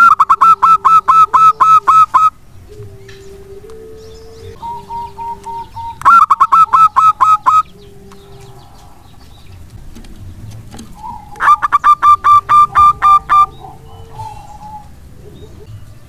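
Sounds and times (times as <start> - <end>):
dove singing staccato notes: 0.0 - 16.0
low cooing notes: 0.0 - 16.0.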